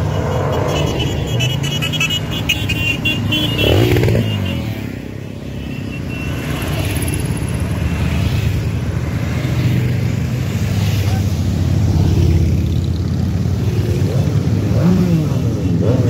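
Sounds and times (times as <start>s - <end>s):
motorcycles riding past: 0.0s - 16.0s.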